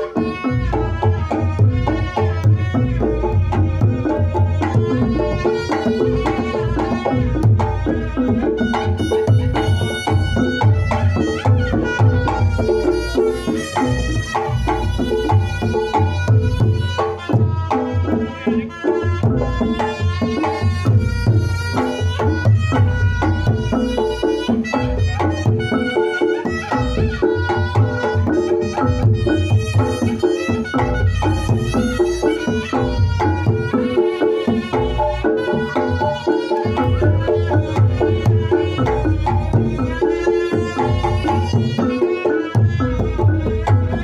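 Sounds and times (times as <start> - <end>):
hand drums busy rhythm: 0.0 - 44.0
pitched melody notes: 0.0 - 44.0.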